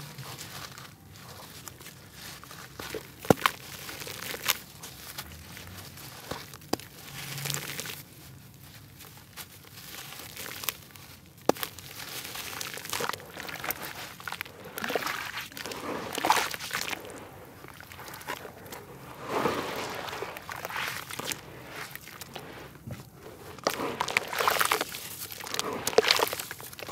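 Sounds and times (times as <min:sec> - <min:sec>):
wet dirt squishing in water: 0:00.0 - 0:26.9.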